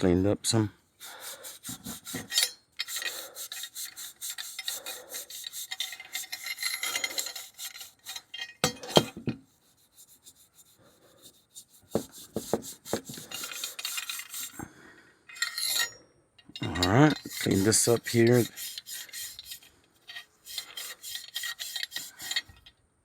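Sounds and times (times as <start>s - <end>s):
scuff pad scrubbing metal: 1.0s - 14.6s, 16.8s - 22.6s.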